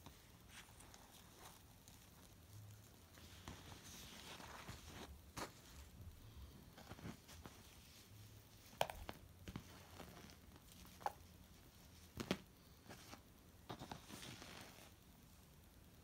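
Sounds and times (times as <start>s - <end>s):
fabric ties rustling: 0.0s - 16.0s.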